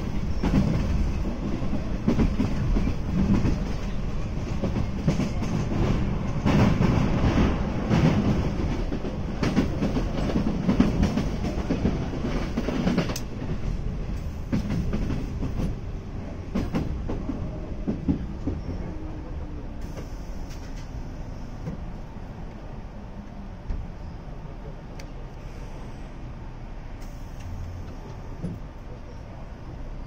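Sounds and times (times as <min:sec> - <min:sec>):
electric train rumble: 0:00.0 - 0:30.0.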